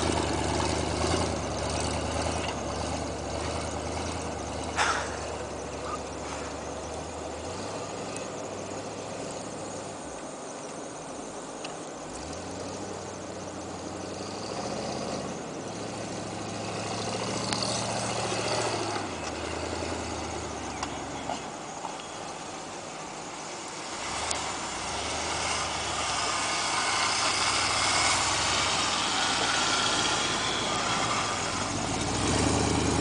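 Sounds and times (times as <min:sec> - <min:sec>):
truck engine revving: 0:00.0 - 0:10.5, 0:11.3 - 0:33.0.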